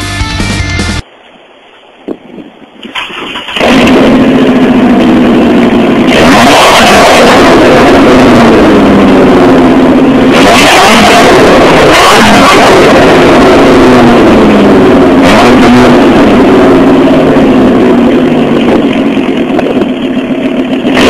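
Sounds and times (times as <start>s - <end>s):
loud truck exhaust revving: 3.6s - 21.0s.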